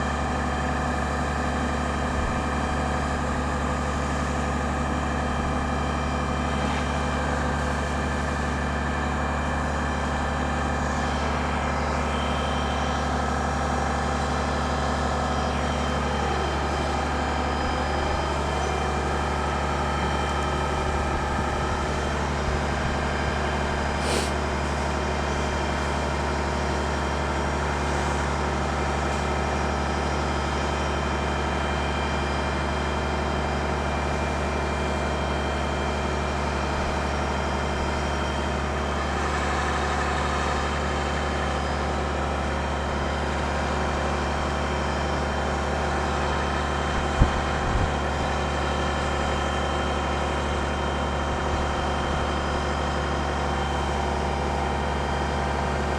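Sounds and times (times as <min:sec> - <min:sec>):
heavy engine droning: 0:00.0 - 0:55.9.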